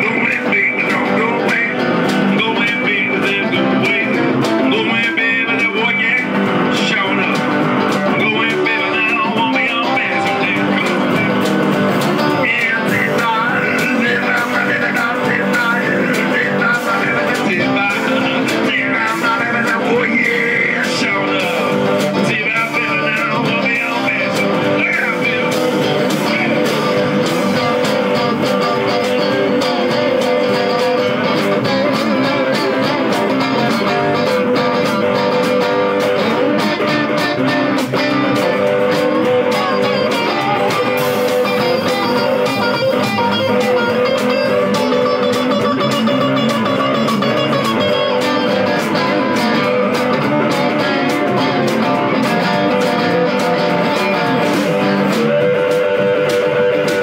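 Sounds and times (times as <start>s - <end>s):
electric guitars playing blues: 0.0s - 57.0s.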